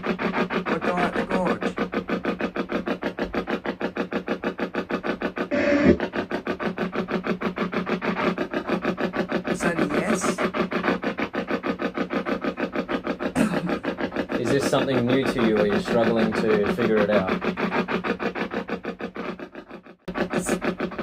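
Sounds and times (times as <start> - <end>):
chopped radio static bursts: 0.0 - 21.0.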